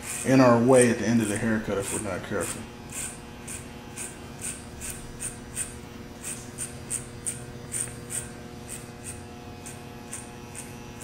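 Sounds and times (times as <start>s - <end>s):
electric hair clipper humming: 0.0s - 11.0s.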